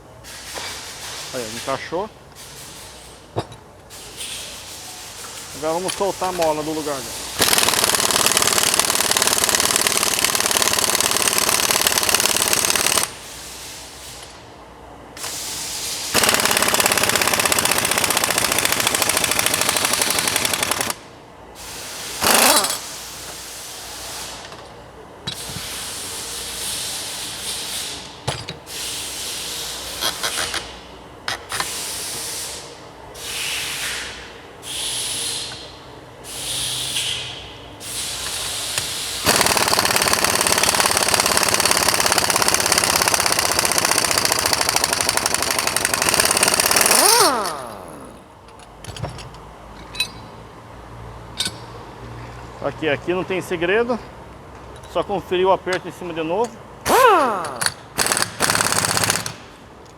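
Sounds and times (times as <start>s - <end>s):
pneumatic impact wrench: 0.3s - 14.4s, 15.2s - 21.0s, 21.6s - 24.7s, 25.3s - 49.2s, 56.8s - 59.6s.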